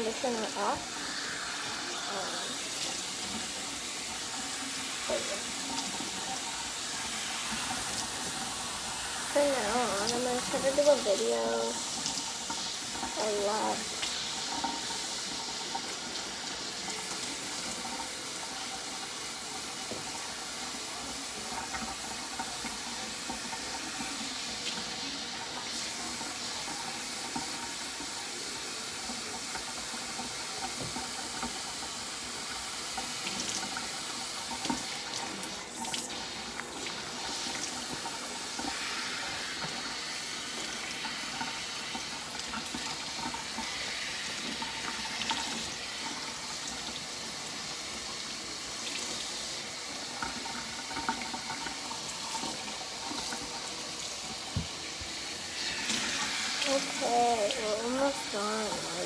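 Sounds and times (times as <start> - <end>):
tap water running: 0.0 - 59.0.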